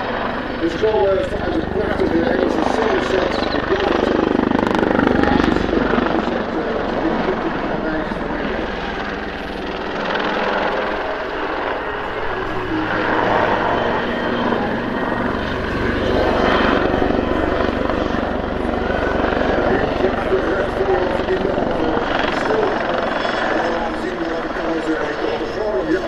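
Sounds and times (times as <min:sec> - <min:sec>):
helicopter flying: 0:00.0 - 0:26.0.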